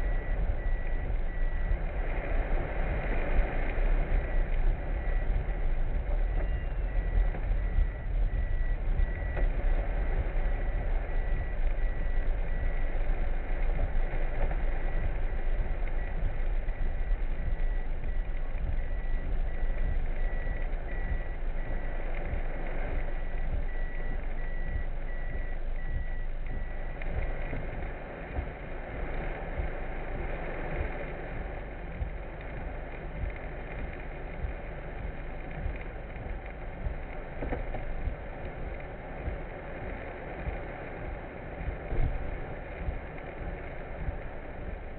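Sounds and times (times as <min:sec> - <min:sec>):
high electronic warning beeps: 0:00.0 - 0:44.9
vehicle rumble: 0:00.0 - 0:44.9.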